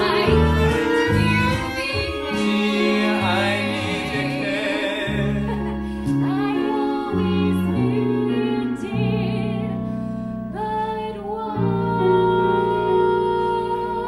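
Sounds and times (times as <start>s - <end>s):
woman singing with vibrato: 0.0s - 9.9s, 10.5s - 14.0s
instrumental accompaniment: 0.0s - 14.0s.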